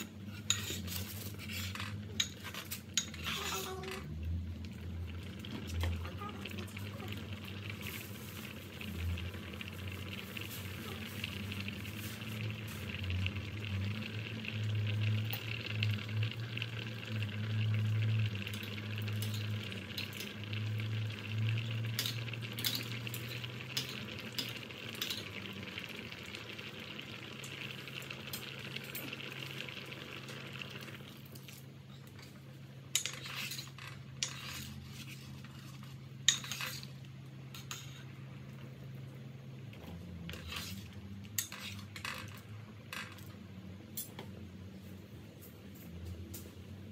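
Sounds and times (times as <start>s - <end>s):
water boiling in a pot: 0.0s - 46.9s.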